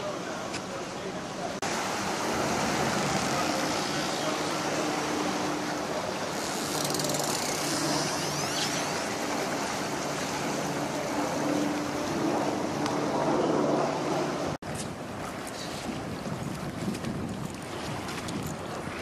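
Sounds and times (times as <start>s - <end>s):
propellers churning water: 0.0s - 19.0s.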